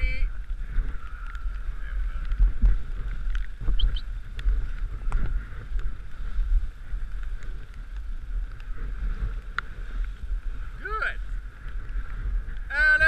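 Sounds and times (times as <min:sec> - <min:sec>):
sled rumbling on snow: 0:00.0 - 0:13.0
wind buffeting microphone: 0:00.0 - 0:13.0.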